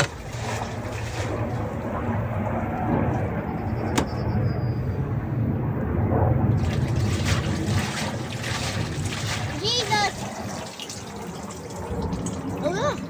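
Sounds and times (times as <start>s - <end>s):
water churning: 0.0s - 4.3s, 6.2s - 13.0s
washing machine motor hum: 0.0s - 13.0s.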